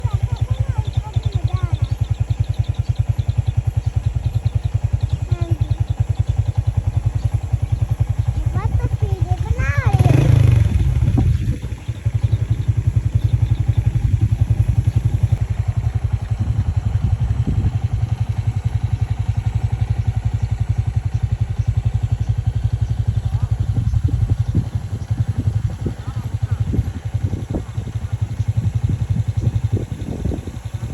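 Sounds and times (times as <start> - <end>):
engine running: 0.0 - 30.9.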